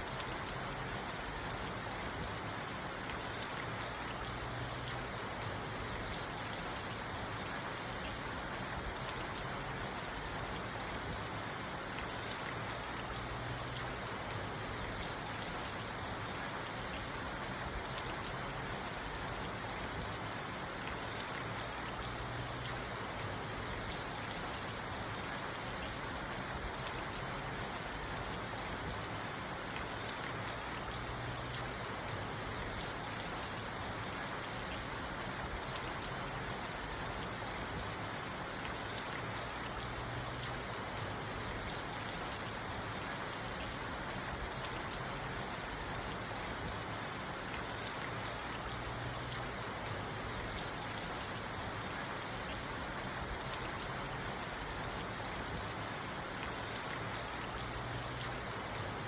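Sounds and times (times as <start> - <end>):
rain on a car roof: 0.0 - 59.0.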